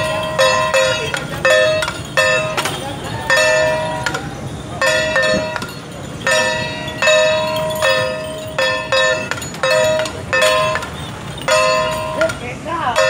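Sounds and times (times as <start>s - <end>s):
metal gong or bell ringing: 0.0s - 13.0s.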